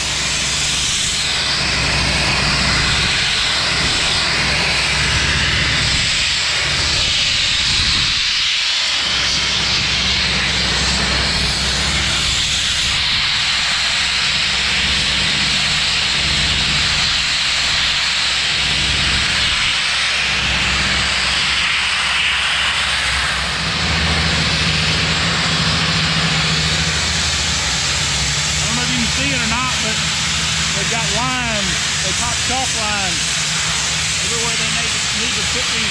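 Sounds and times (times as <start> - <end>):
blasting nozzle spraying water jet: 0.0 - 35.9.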